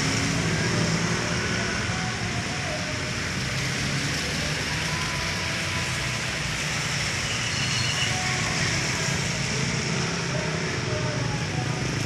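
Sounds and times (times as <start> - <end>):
tyres hissing on wet road: 0.0 - 10.9.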